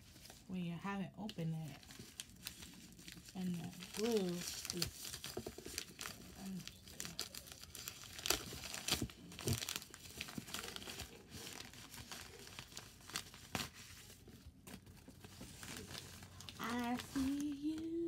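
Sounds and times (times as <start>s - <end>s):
plastic bag crinkling and tearing: 1.3s - 18.0s.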